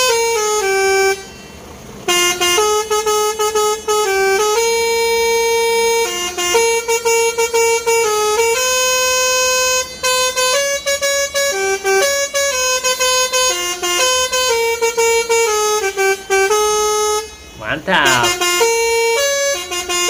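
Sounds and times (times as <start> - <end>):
truck air horns playing a tune: 2.1 - 20.0.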